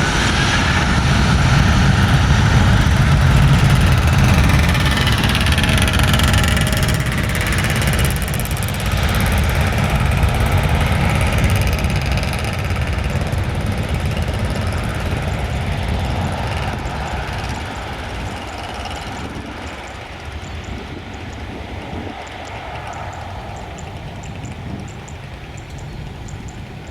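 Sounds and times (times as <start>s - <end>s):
airliner engine noise: 0.0s - 26.9s.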